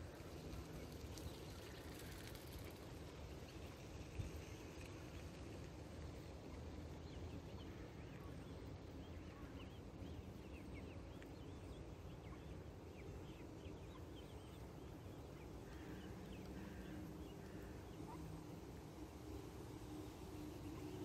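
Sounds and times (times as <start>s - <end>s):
faint low rumble: 0.0s - 21.0s.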